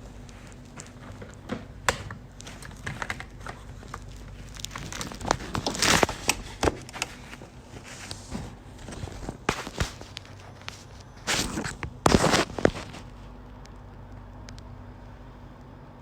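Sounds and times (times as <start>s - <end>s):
crinkling and rustling: 0.0s - 14.7s.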